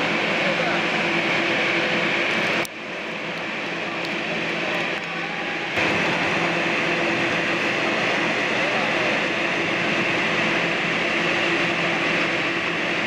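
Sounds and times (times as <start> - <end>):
ventilation blowers rushing: 0.0 - 13.0.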